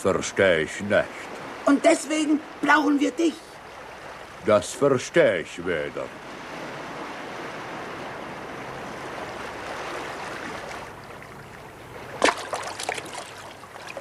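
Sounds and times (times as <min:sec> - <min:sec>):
sea surf rushing: 0:00.0 - 0:14.0.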